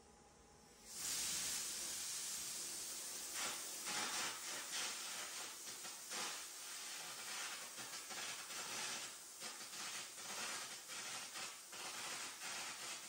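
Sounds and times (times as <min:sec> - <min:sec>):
compressed air and arc hissing: 0:00.8 - 0:13.0.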